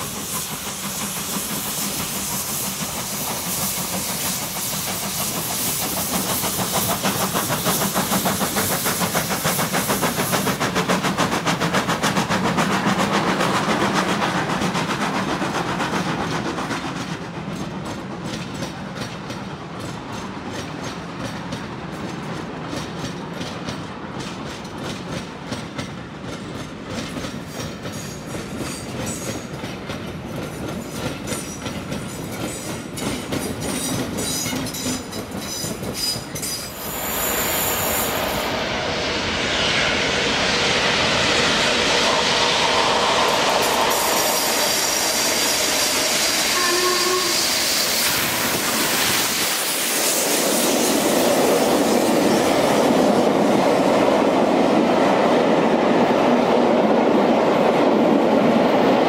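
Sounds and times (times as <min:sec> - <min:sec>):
steam train passing: 0:00.0 - 0:59.0.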